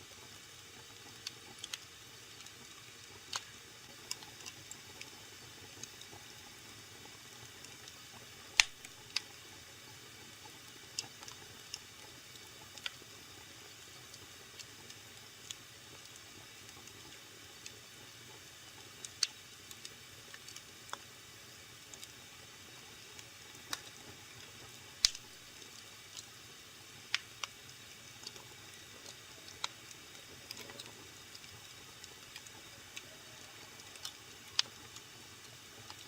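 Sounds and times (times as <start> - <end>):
wood fire crackling and popping: 0.2 - 36.0.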